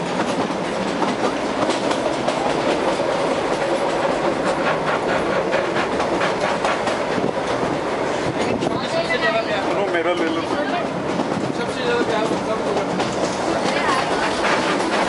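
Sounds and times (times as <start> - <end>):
train rumble and rattle: 0.0 - 15.0.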